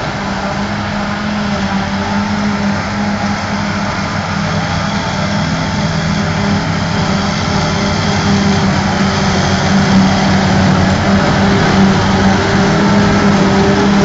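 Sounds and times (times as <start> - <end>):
forage harvester chopping grass: 0.0 - 14.0
tractor running: 0.0 - 14.0.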